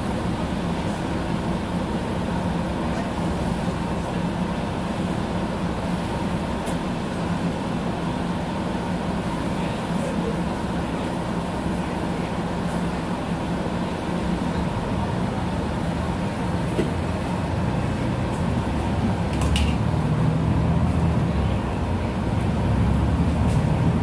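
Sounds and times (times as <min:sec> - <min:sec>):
bus engine humming: 0:00.0 - 0:24.0.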